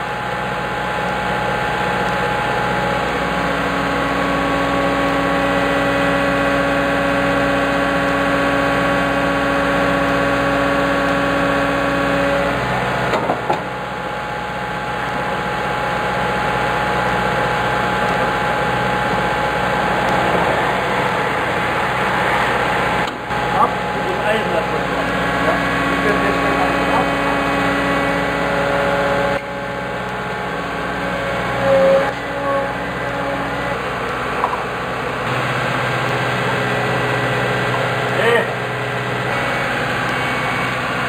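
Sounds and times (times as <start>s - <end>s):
engine idling: 0.0s - 41.0s
steady hum: 0.0s - 41.0s.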